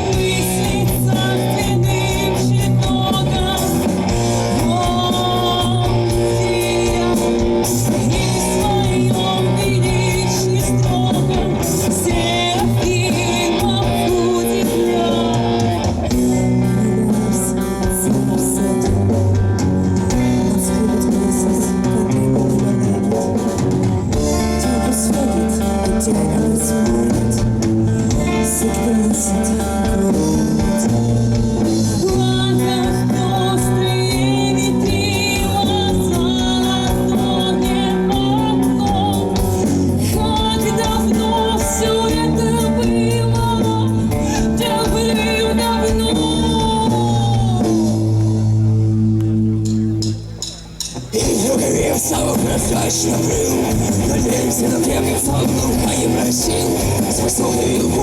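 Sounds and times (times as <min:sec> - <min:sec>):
electric guitar: 0:00.0 - 0:58.0
rock band playing live: 0:00.0 - 0:58.0.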